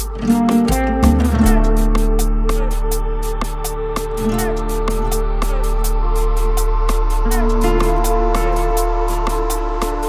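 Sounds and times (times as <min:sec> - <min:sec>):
light instrumental music: 0:00.0 - 0:10.0
quick ticking beat: 0:00.0 - 0:10.0.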